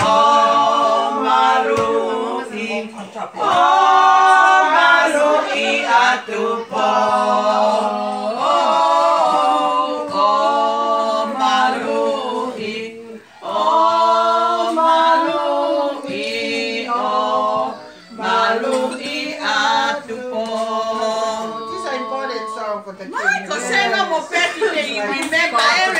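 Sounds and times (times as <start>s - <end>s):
voices singing held notes: 0.0s - 22.9s.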